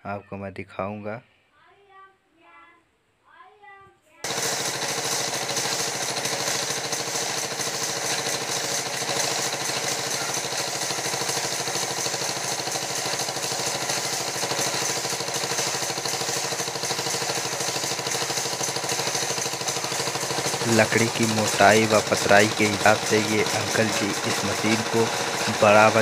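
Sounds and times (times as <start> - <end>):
band sawmill machinery running: 4.2 - 26.0.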